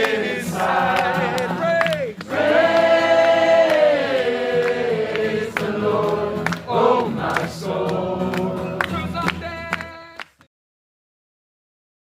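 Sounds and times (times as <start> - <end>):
voices singing worship song: 0.0 - 10.0.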